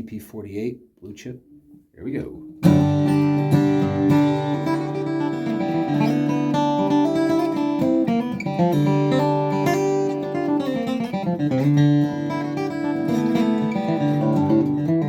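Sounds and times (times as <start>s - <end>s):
acoustic guitar flatpicked: 2.4s - 15.0s.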